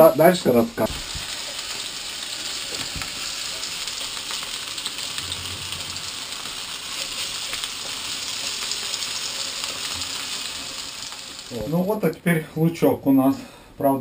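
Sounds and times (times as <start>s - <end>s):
potatoes sizzling in oil: 0.0s - 12.3s.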